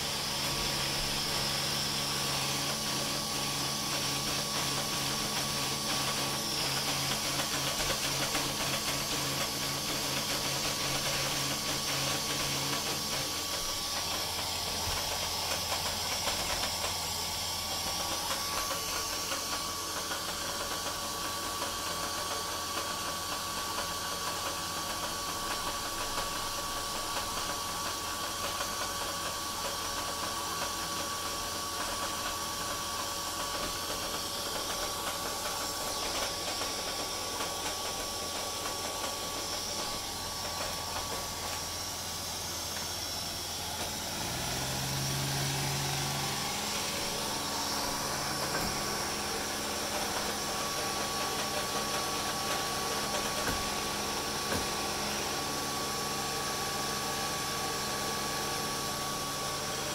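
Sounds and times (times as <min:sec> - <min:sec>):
robot vacuum running: 0:00.0 - 0:59.9.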